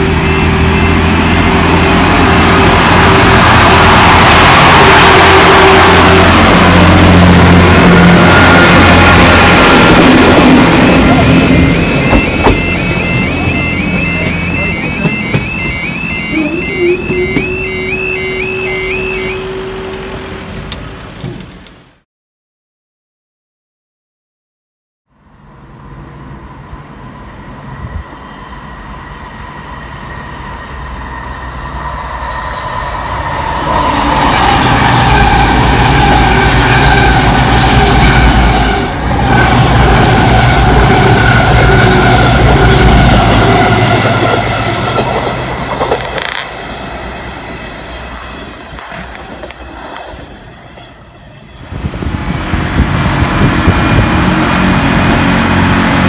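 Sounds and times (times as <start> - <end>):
diesel train passing: 0.0 - 22.0, 25.1 - 56.0.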